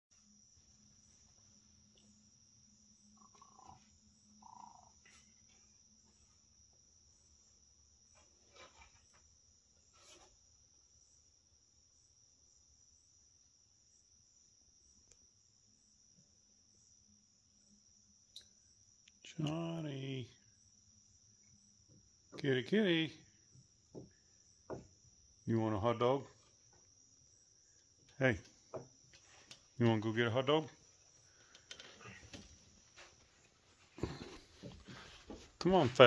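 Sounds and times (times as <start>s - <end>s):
crickets chirring: 0.1s - 36.0s.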